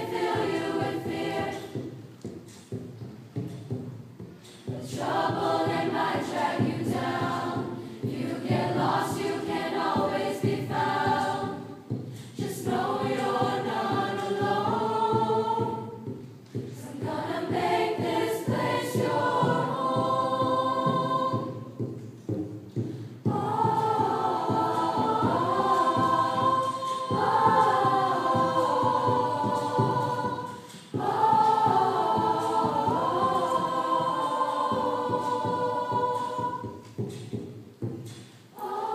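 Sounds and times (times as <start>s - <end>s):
mixed choir singing pop song: 0.0s - 38.9s.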